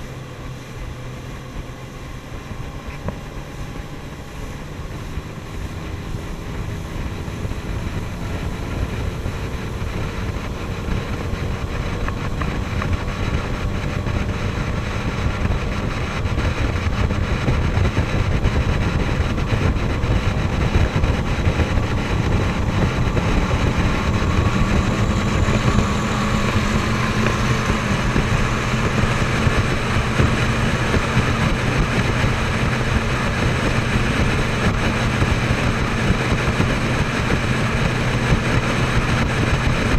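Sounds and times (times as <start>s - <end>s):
motorboat engines running: 0.0s - 39.9s
speedboat passing alongside: 0.0s - 39.9s.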